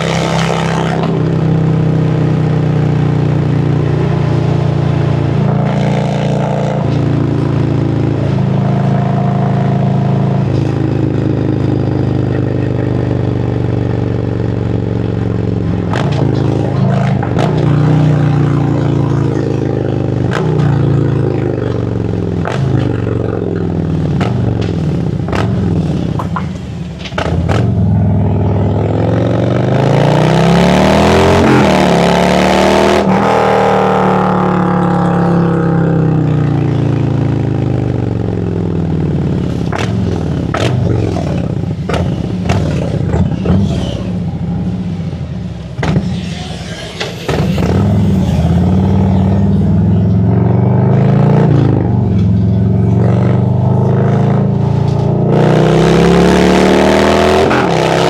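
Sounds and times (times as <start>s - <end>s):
motorcycle engine accelerating: 0.0s - 26.5s, 27.1s - 46.0s, 47.3s - 58.0s.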